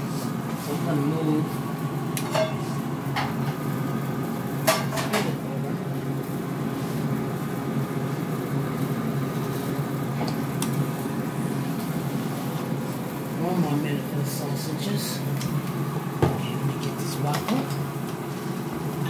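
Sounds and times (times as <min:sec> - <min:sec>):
air fryer humming: 0:00.0 - 0:19.0.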